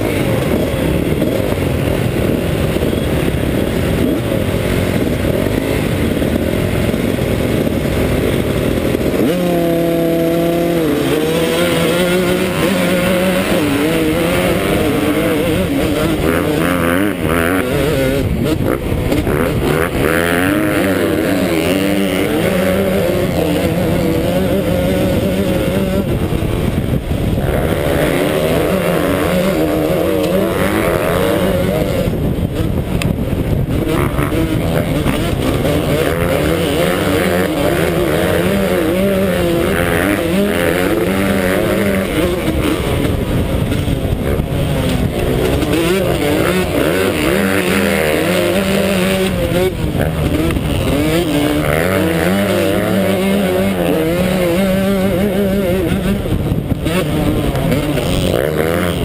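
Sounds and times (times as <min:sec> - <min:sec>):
motocross engine racing: 0:00.0 - 0:59.0
other dirt bike engines: 0:00.0 - 0:59.0.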